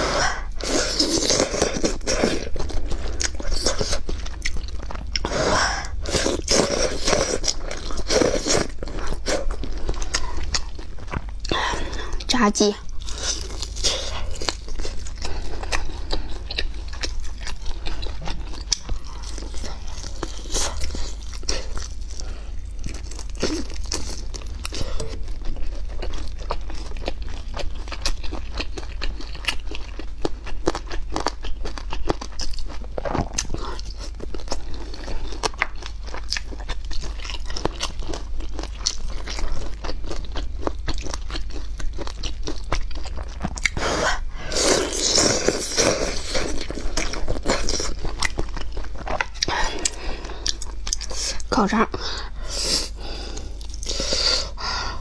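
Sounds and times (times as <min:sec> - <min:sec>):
crunching and chewing food: 0:00.0 - 0:55.0
steady low hum: 0:00.0 - 0:55.0.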